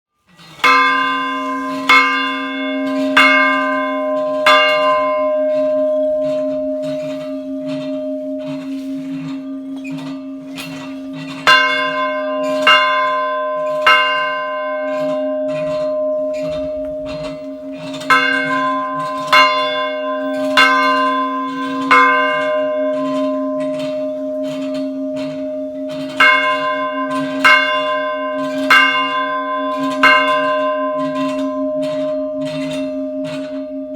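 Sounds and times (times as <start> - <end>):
small church bell ringing: 0.4 - 33.9.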